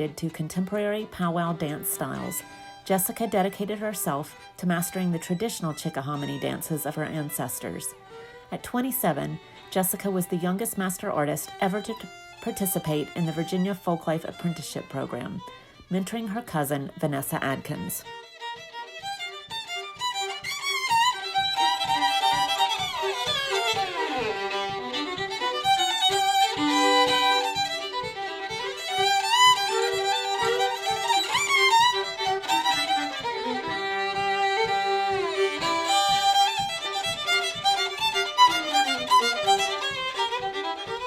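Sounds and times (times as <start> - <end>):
fiddle playing sliding notes: 0.0 - 41.0
steady rhythmic pulse: 0.0 - 41.0.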